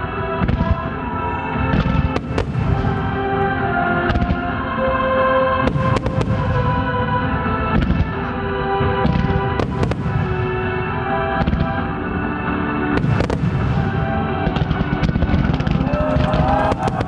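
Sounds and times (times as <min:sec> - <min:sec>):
music with long held notes: 0:00.0 - 0:17.0
fireworks bursting: 0:00.4 - 0:17.0.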